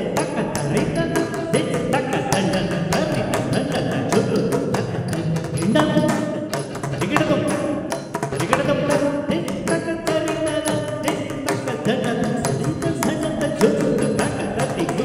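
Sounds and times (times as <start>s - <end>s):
mridangam drum strokes: 0.0s - 15.0s
person singing with gliding notes: 0.0s - 15.0s.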